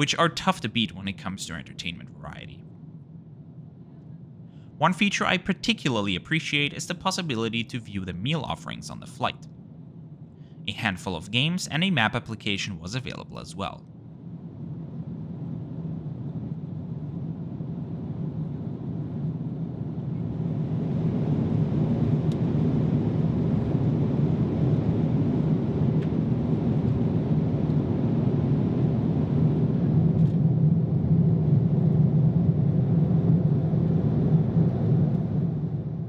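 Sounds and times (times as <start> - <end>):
airplane cabin rumble: 0.0 - 36.0.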